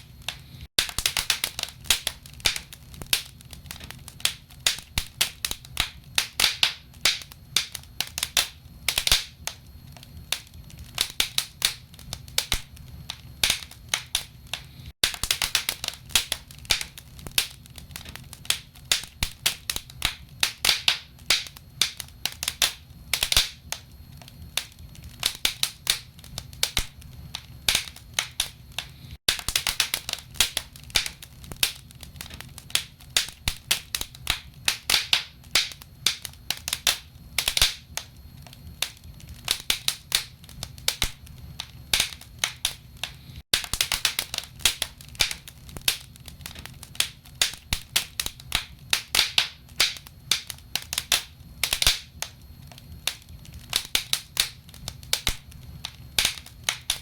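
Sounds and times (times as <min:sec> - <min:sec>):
low rumble of flames: 0:00.0 - 0:57.0
burning logs popping and snapping: 0:00.1 - 0:57.0.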